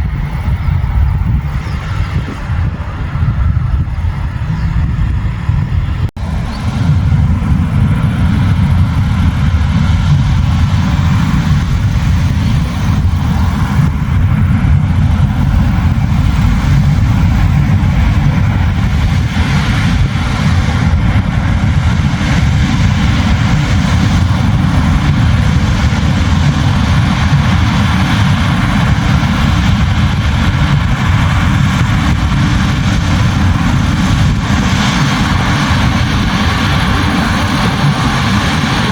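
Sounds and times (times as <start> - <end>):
combine harvester rumbling: 0.0 - 38.9.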